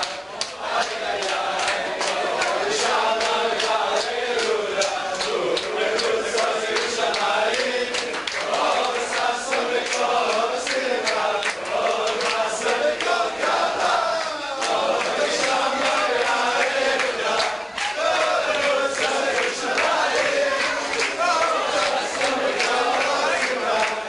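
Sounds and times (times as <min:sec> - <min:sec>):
hand-clapping: 0:00.0 - 0:24.0
men singing together: 0:00.0 - 0:24.0.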